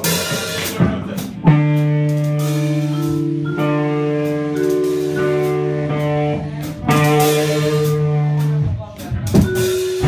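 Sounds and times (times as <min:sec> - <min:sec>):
band playing sustained chords: 0:00.0 - 0:08.9
light drumming: 0:00.0 - 0:10.0.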